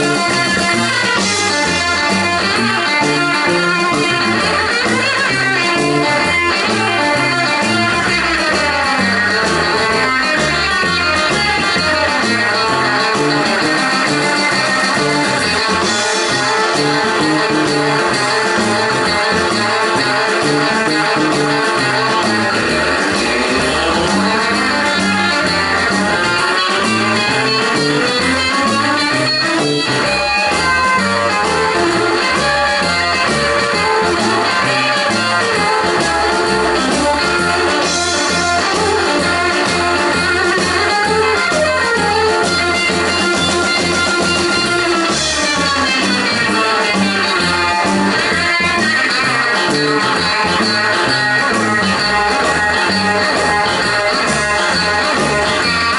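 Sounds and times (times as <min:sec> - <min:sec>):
bass and drums: 0:00.0 - 0:55.9
electric guitar lead runs: 0:00.0 - 0:55.9.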